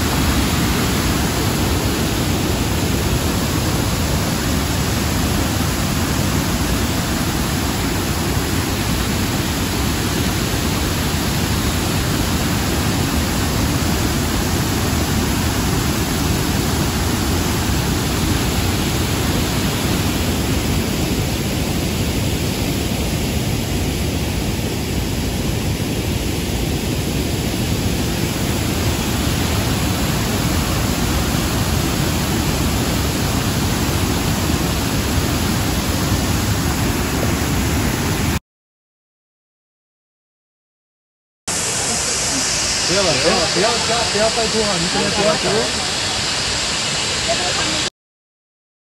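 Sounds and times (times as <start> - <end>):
waterfall rushing: 0.0 - 38.4, 41.5 - 47.9.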